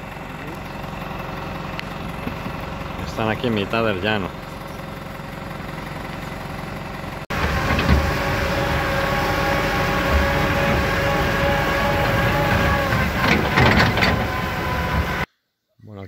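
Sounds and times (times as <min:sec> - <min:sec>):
tractor diesel engine droning: 0:00.0 - 0:15.3.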